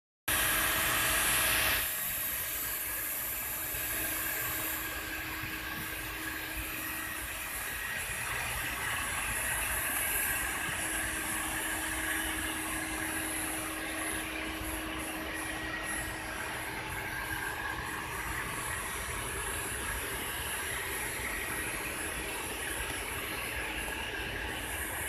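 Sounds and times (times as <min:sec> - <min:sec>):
vacuum cleaner running: 0:00.3 - 0:25.0.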